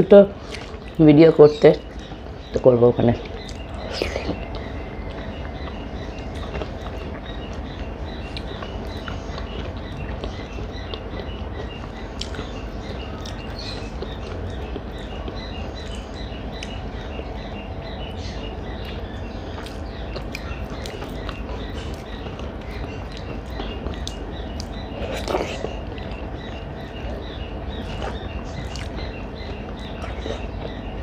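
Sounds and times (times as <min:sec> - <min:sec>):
quiet eating sounds: 0:00.0 - 0:31.0.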